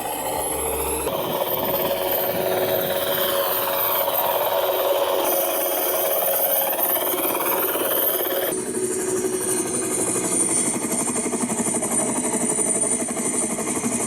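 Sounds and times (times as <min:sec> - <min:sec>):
helicopter rotor whir: 0:00.0 - 0:14.0.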